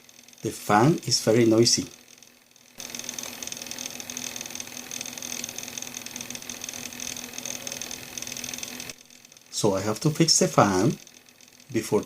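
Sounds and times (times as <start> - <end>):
laptop fan whirring and rattling: 0.0 - 12.0.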